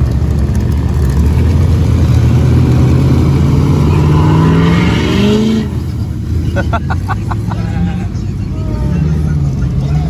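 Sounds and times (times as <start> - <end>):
diesel engine revving: 0.0 - 10.0.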